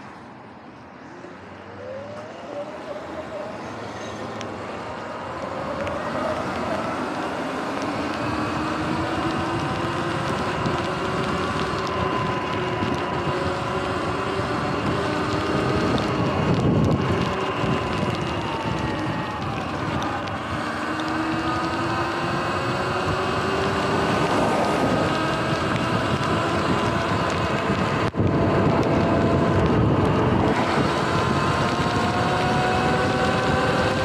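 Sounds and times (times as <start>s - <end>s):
tyre and wind noise: 3.8s - 34.0s
electric motor whine: 5.1s - 34.0s.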